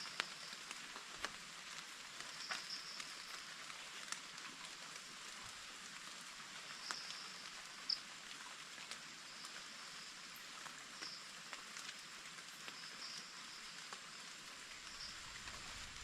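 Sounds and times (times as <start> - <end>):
light rain with drips: 0.0 - 16.0.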